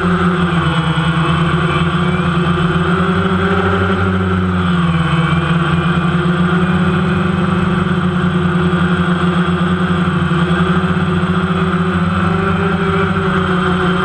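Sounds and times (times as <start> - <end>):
remote-control aircraft motors humming: 0.0 - 14.0.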